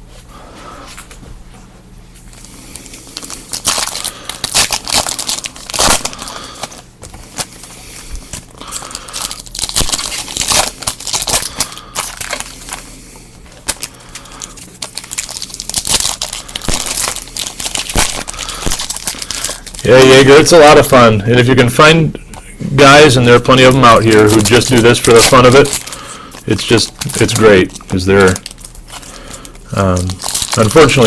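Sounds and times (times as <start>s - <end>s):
plastic wrappers tearing and crinkling: 2.4s - 12.9s, 13.5s - 21.6s, 22.8s - 31.0s.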